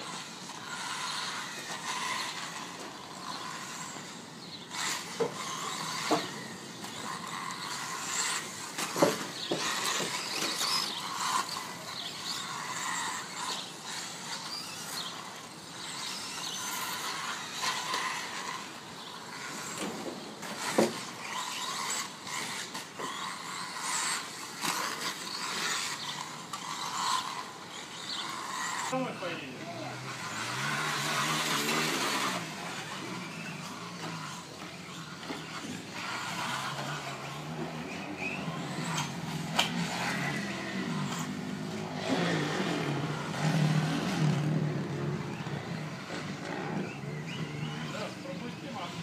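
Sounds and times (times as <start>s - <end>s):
electric motor whining: 0.0s - 49.0s.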